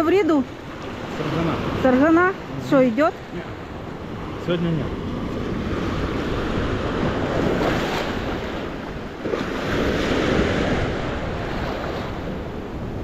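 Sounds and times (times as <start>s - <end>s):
waves washing on shore: 0.0s - 13.0s
wind buffeting microphone: 0.0s - 13.0s.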